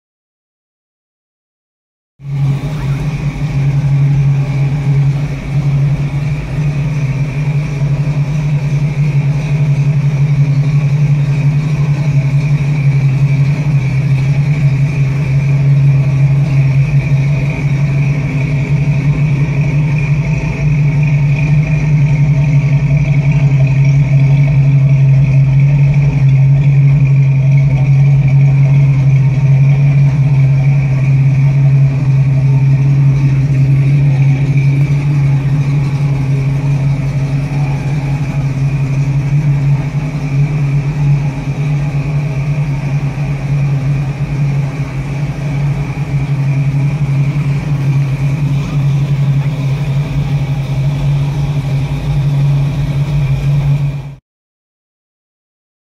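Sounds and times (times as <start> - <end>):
car engine idling: 2.2 - 54.2.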